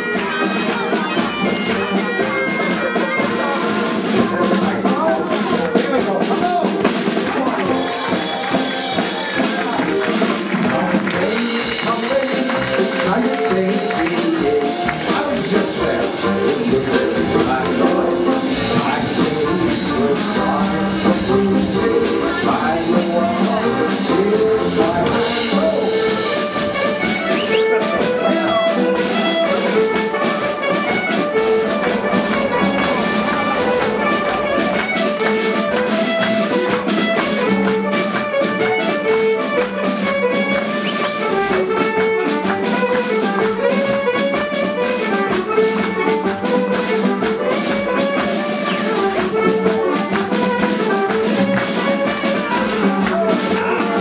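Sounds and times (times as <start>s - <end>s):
band music with brass and drums: 0.0s - 54.0s.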